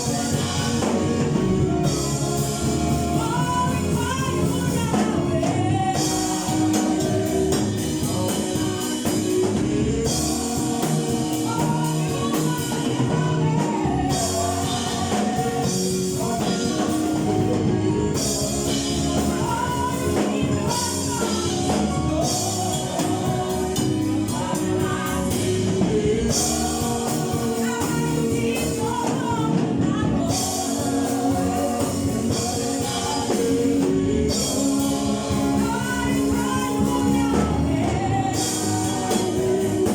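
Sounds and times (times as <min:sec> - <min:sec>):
band accompaniment: 0:00.0 - 0:39.9
choir singing gospel: 0:00.0 - 0:39.9
steady drum beat: 0:00.0 - 0:39.9.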